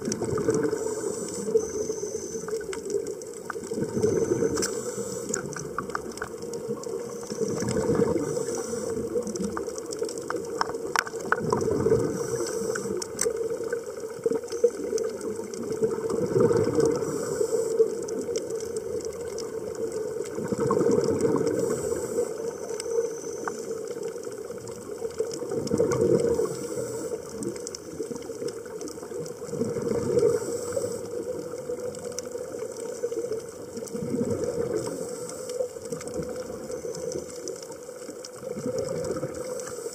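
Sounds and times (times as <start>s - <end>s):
crackle of scattered clicks: 0.0s - 39.9s
underwater exhaled bubbles: 0.0s - 39.9s.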